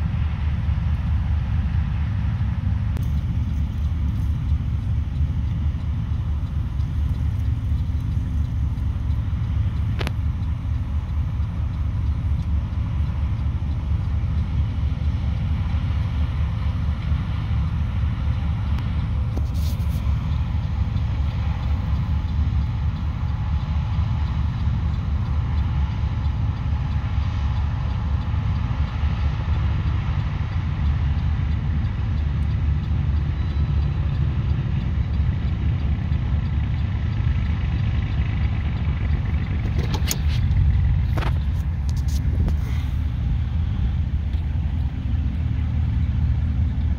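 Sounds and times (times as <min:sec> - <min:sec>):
combine harvesters rumbling: 0:00.0 - 0:46.9.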